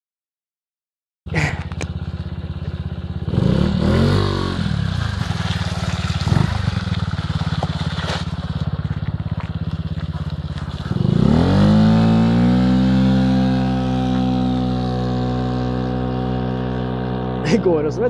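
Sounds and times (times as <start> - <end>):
scooter engine pulling away: 1.3 - 18.0.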